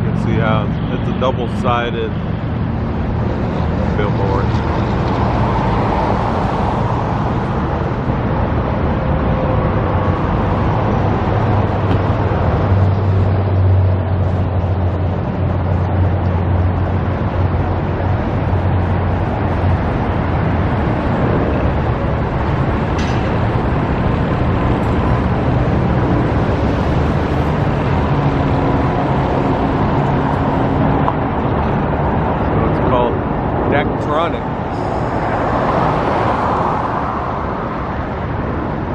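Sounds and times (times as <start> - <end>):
heavy engine rumbling: 0.0 - 38.9
road traffic noise: 0.0 - 38.9.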